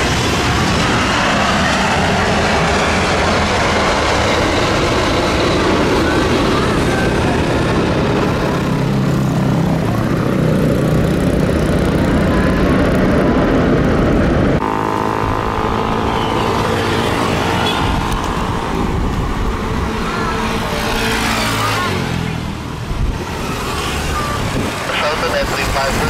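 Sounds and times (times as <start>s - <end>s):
jet engine noise: 0.0s - 26.0s
jet engine whine: 0.0s - 26.0s.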